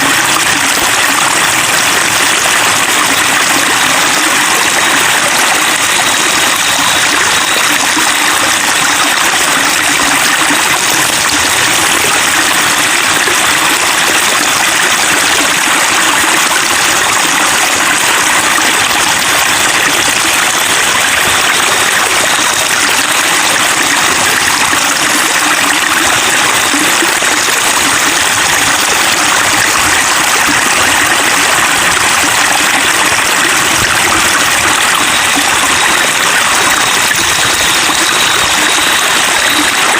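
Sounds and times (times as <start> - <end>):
babbling flowing water: 0.0 - 39.9.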